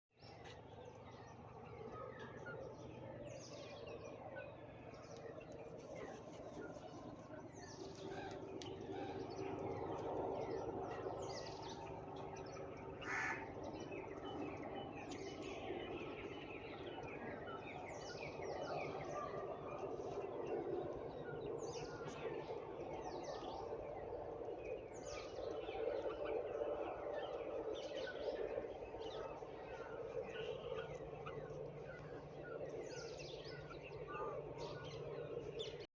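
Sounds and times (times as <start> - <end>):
many birds chirping: 0.2 - 35.9
steady low background hum: 0.2 - 35.9.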